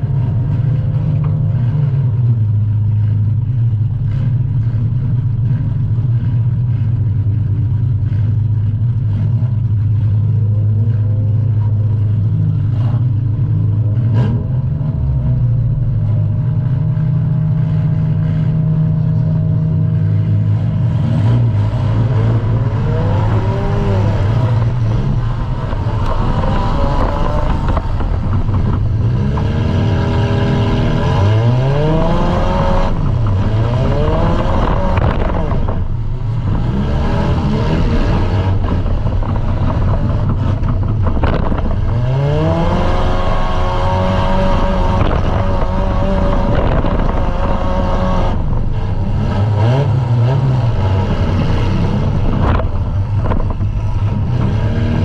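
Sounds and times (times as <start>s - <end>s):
car engine droning and revving: 0.0s - 55.0s.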